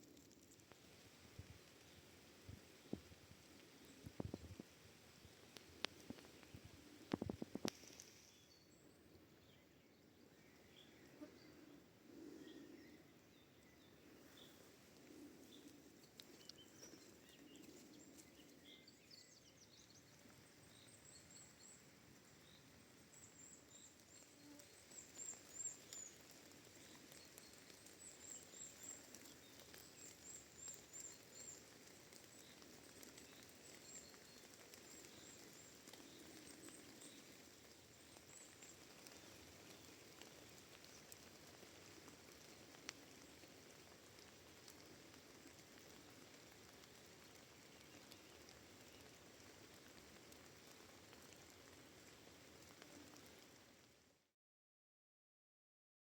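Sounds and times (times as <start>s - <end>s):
soft steady hiss: 0.0s - 54.3s.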